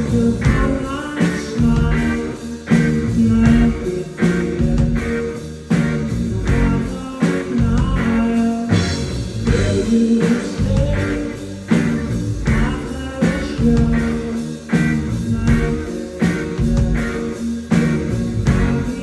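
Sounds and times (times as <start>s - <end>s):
rock band playing live: 0.0s - 19.0s
sliding guitar line: 0.0s - 19.0s.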